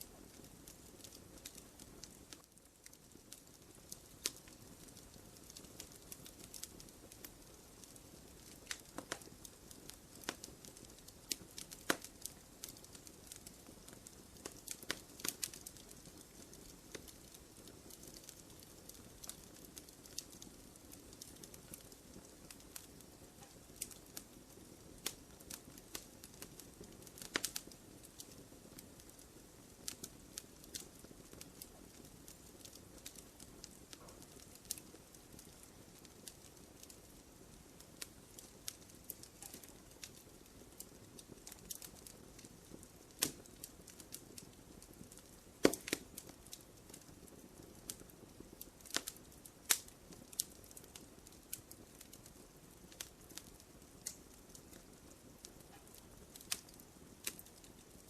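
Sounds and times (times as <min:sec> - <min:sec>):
hiss of burning logs: 0:00.0 - 0:58.0
wood fire crackling and popping: 0:00.0 - 0:58.0.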